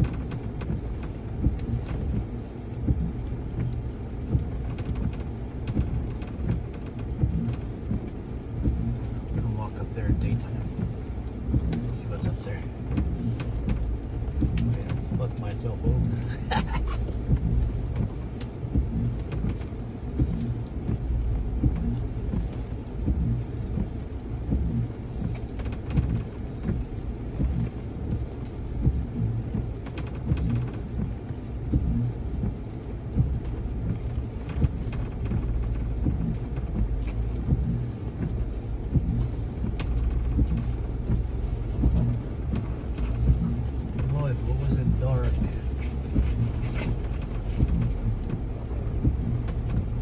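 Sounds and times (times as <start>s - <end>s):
vehicle body knocks and bumps: 0.0s - 12.0s, 12.9s - 26.8s, 33.2s - 50.0s
engine deep rumble: 0.0s - 50.0s.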